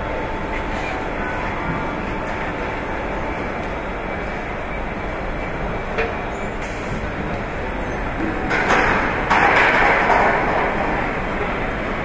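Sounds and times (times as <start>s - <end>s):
machinery and conveyor noise: 0.0s - 12.0s.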